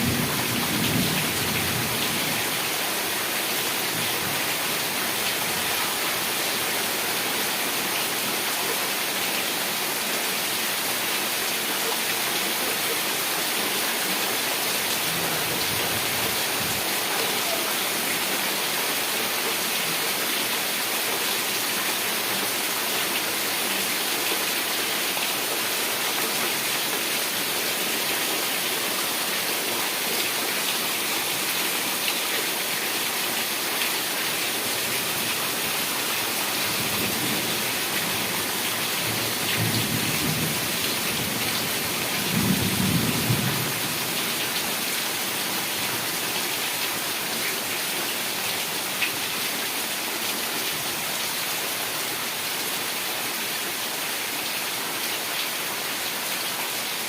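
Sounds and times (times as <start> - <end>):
heavy rain hissing: 0.0 - 51.1.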